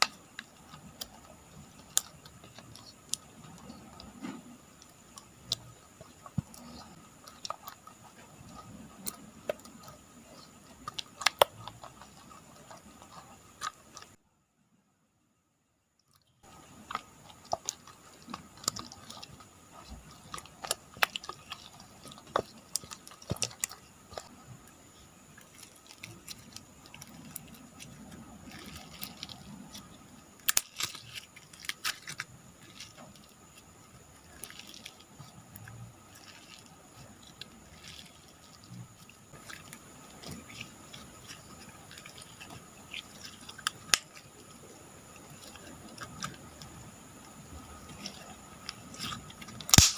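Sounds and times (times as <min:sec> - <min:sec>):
slime squishing: 0:00.0 - 0:14.2, 0:16.1 - 0:49.9.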